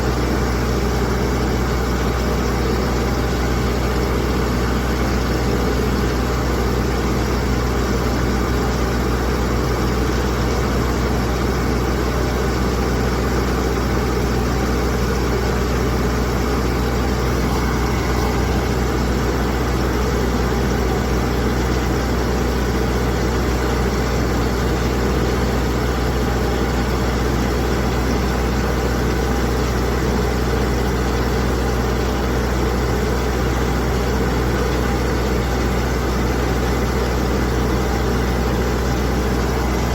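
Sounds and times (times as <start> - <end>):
ship engine droning: 0.0 - 32.4, 35.0 - 39.9.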